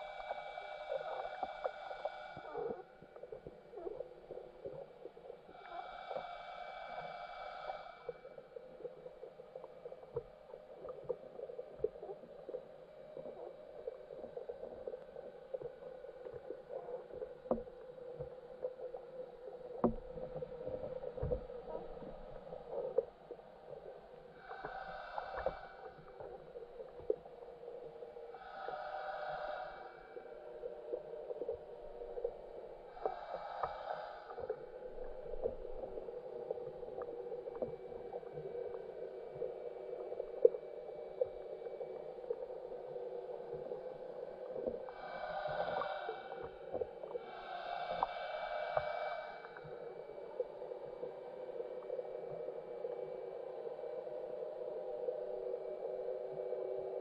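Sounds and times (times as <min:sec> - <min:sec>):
fine underwater crackling and clicks: 0:00.0 - 0:57.0
underwater hum: 0:00.0 - 0:57.0.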